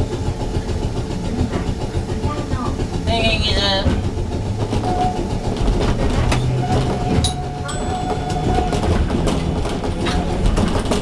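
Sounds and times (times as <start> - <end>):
train rumbling along track: 0.0 - 11.0
wheels clicking over rail joints: 0.4 - 11.0.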